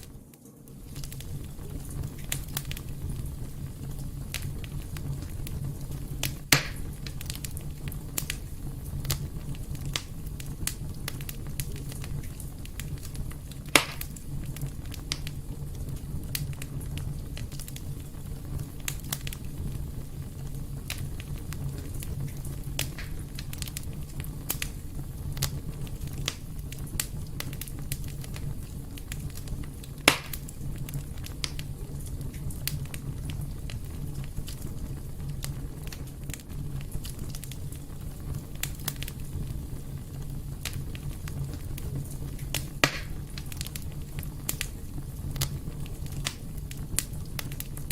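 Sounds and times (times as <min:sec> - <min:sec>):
fire crackling in fireplace: 0:00.0 - 0:47.9
loud fire pops: 0:00.0 - 0:47.9.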